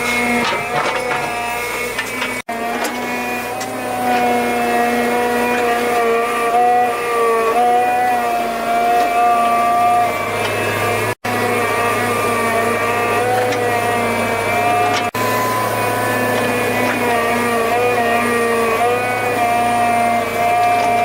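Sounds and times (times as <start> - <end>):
small motor running: 0.0 - 21.0.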